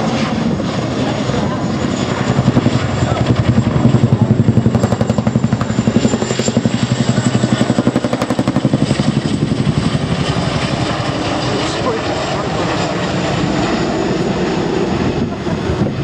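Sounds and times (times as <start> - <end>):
helicopter engine noise: 0.0 - 16.0
helicopter rotor blades beating: 0.0 - 16.0.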